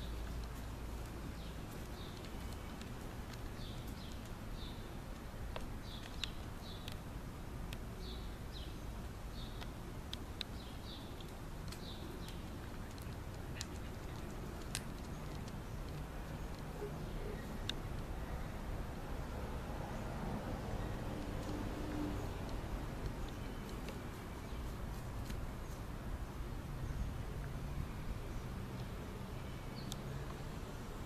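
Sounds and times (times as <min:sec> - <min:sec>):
low steady outdoor hum: 0:00.0 - 0:31.0.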